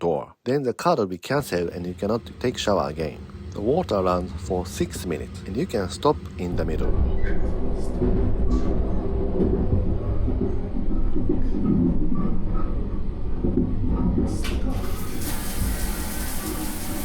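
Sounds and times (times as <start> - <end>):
train running rumble: 1.4 - 17.0.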